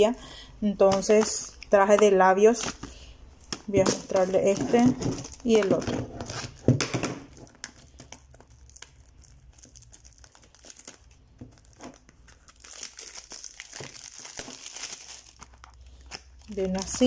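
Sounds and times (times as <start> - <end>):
plastic packaging crinkling: 0.8 - 17.0.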